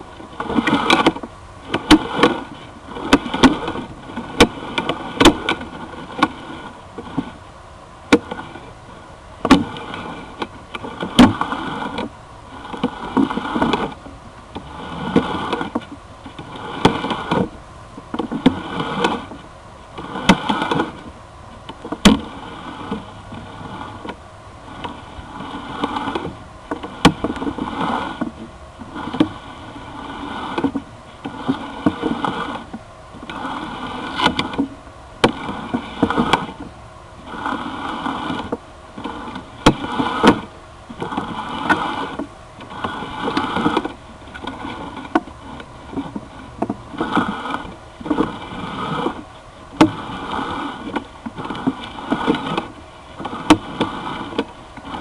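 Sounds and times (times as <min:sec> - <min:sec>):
cable scraping in drain pipe: 0:00.0 - 0:07.5, 0:08.1 - 0:55.0.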